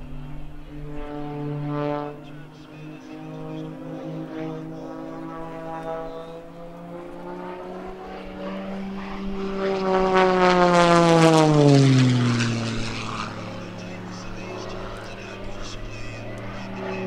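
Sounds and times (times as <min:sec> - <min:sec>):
propeller plane passing low: 0:00.0 - 0:17.0.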